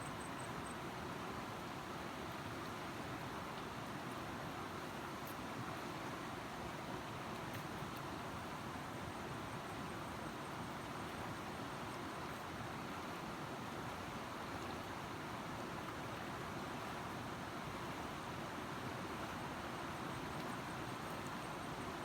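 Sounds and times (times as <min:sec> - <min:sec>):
flowing river water: 0:00.1 - 0:22.0.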